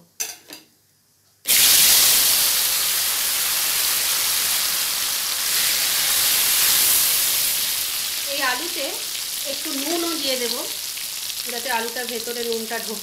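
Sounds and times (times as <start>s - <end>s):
potatoes sizzling in hot oil: 1.5s - 13.0s.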